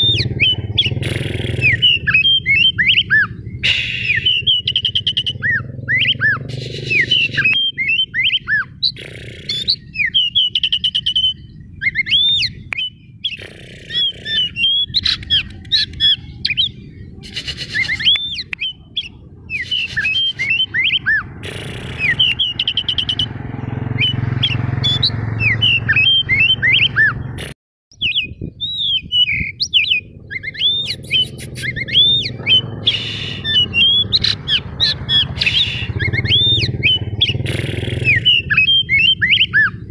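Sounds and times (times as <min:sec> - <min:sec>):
bird singing whistled song: 0:00.0 - 0:21.3, 0:22.0 - 0:39.9
harsh rattling bird calls: 0:00.0 - 0:39.9.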